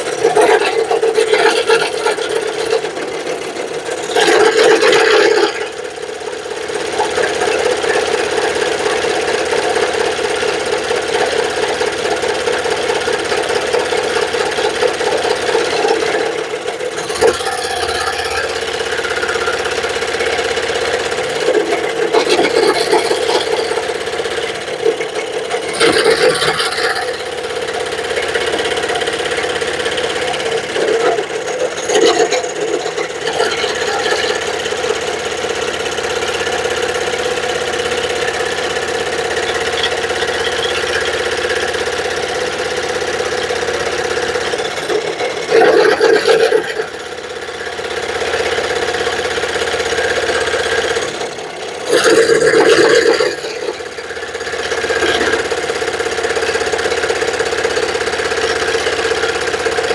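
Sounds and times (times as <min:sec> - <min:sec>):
power saw cutting wood: 0:00.0 - 0:59.9.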